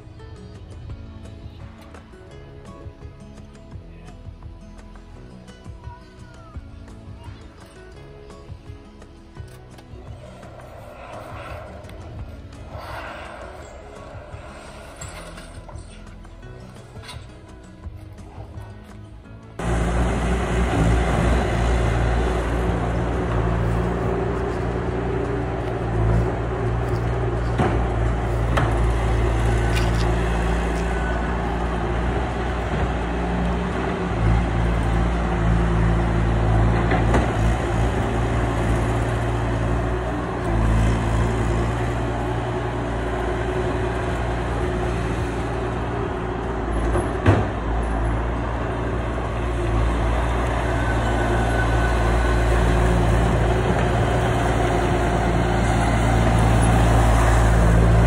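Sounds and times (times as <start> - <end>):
large engine running: 8.6 - 58.0.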